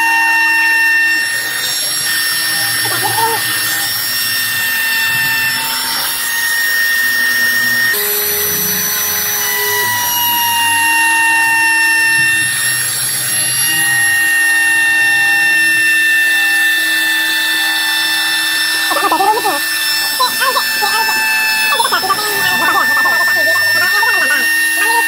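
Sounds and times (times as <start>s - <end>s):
router motors whining: 0.0s - 25.0s.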